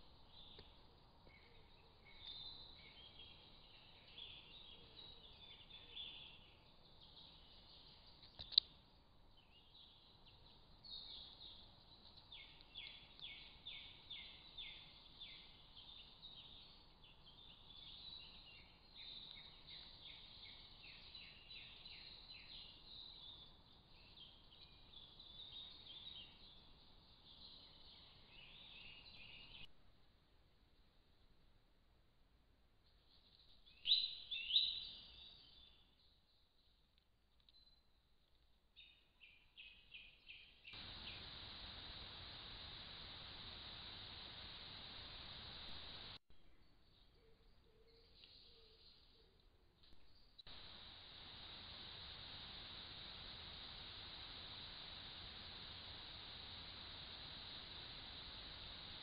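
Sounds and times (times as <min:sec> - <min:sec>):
microphone hiss: 0:00.0 - 0:31.5, 0:39.3 - 0:46.2, 0:49.8 - 0:59.0.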